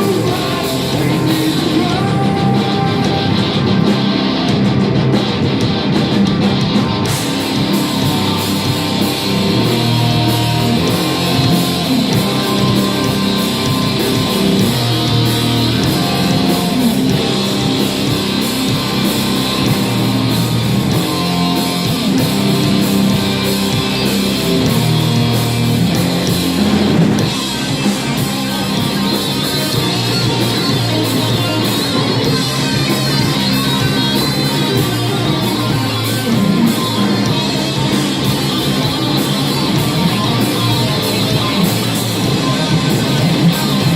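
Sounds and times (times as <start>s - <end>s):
live heavy metal band: 0.0s - 43.9s.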